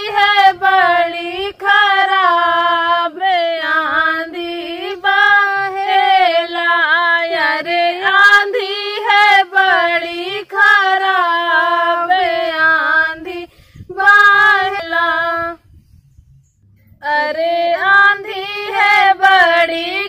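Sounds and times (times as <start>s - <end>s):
two women singing folk song: 0.0s - 15.6s, 16.9s - 20.0s.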